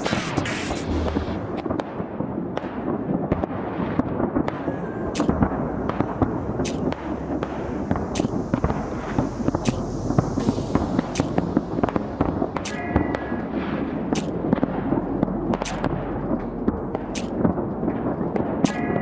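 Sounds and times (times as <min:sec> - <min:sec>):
fireworks bangs: 0:00.0 - 0:19.0
rumble of shells bursting: 0:00.1 - 0:19.0.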